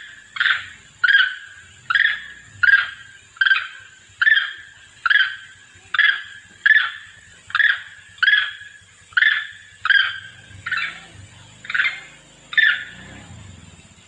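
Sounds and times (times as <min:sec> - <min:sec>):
monkey sharp calls: 0:00.0 - 0:13.2.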